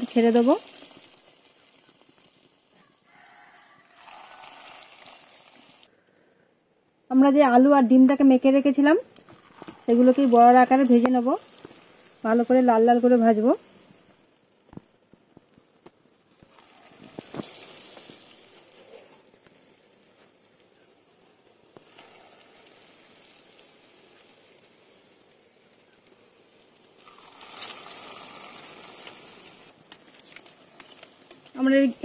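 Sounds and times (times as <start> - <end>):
hot oil sizzling: 0.0 - 5.9, 7.9 - 32.0.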